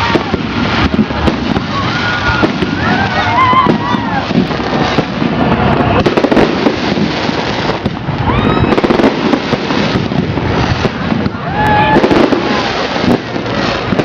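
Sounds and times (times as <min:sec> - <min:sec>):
fireworks bursting and crackling: 0:00.0 - 0:14.0
fireworks whistles: 0:00.0 - 0:14.0.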